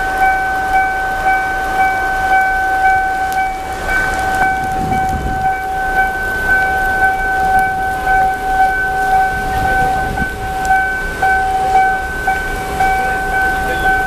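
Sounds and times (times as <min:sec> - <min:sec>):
level-crossing warning alarm: 0:00.0 - 0:14.0.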